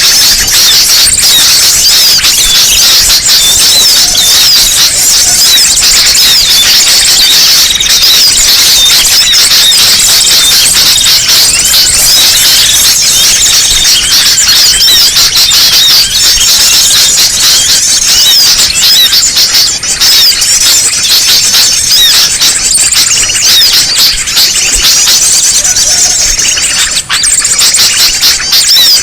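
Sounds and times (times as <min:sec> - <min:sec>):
chorus of small birds chirping: 0:00.0 - 0:29.0.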